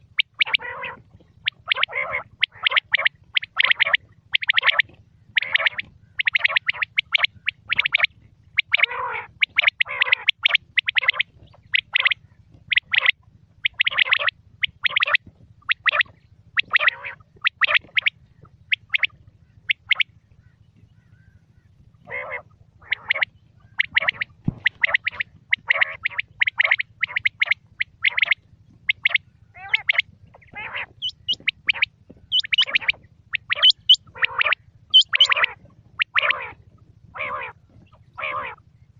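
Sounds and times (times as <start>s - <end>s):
quail calling: 0.0s - 38.9s
steady low hum: 0.0s - 38.9s.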